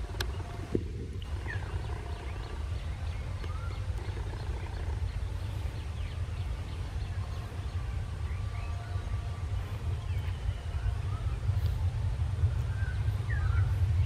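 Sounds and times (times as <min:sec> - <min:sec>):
birds chirping and whistling: 0:00.0 - 0:14.0
distant diesel locomotive rumble: 0:00.0 - 0:14.0.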